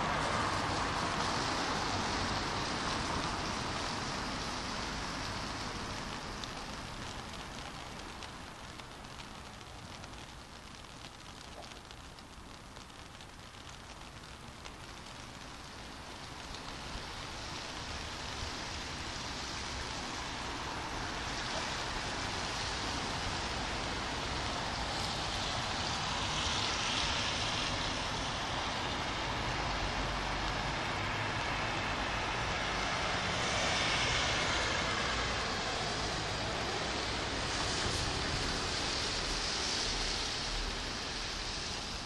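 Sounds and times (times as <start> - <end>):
car tyres hissing on wet road: 0.0 - 42.0
rain on street: 0.0 - 42.0.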